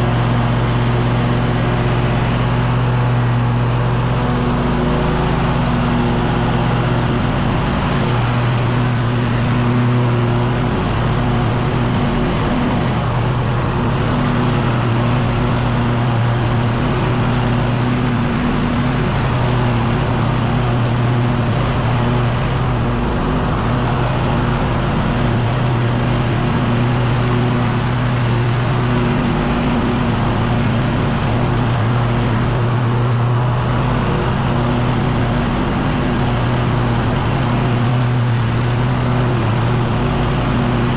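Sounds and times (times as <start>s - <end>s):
leaf blower running: 0.0s - 40.9s.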